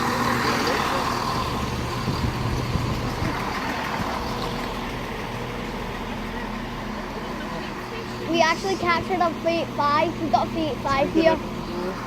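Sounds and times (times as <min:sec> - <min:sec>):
train diesel engines humming: 0:00.0 - 0:12.0.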